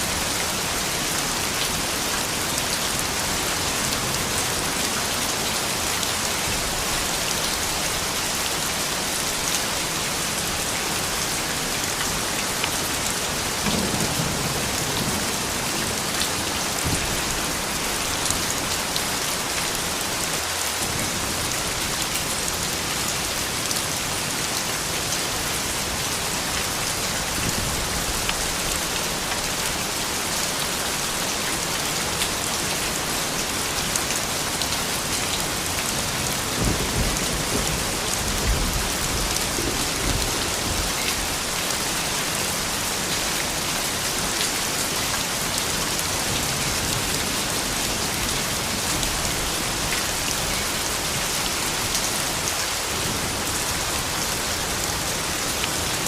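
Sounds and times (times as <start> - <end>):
rain pattering on hard surfaces: 0.0 - 56.0.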